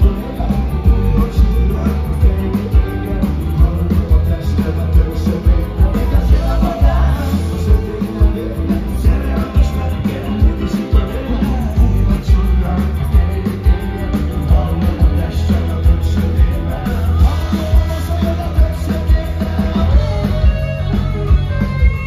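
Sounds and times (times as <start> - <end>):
drums beating: 0.0 - 22.0
electric guitar: 0.0 - 22.0
person singing: 0.0 - 22.0.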